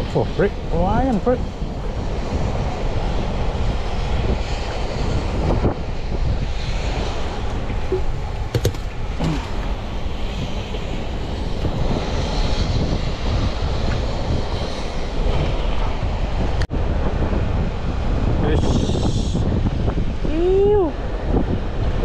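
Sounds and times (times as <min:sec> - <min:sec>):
choppy water around boat: 0:00.0 - 0:18.6, 0:19.4 - 0:22.0
wind buffeting microphone: 0:00.0 - 0:22.0.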